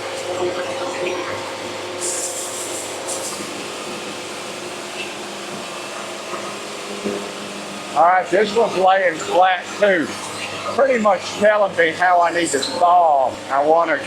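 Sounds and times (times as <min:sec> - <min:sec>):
band sawmill machine hum: 0:00.0 - 0:14.0.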